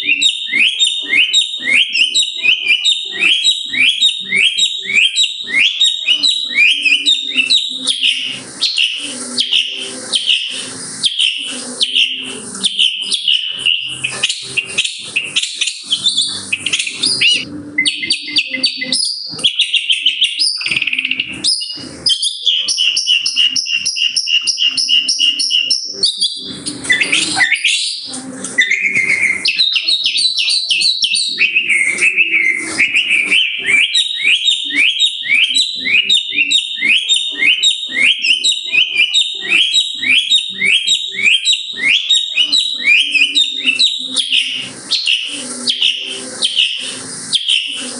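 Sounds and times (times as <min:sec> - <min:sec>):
held whistle: 0:00.0 - 0:47.8
shrike singing: 0:00.0 - 0:47.9.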